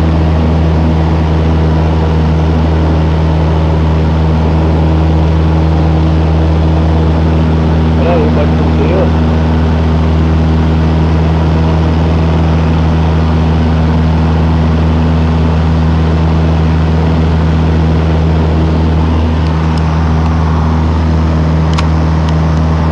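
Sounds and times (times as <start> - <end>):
propeller plane engine drone: 0.0 - 22.9.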